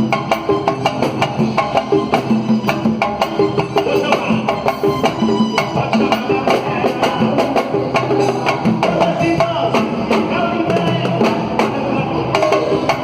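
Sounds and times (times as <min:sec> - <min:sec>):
samba percussion group: 0:00.0 - 0:13.0.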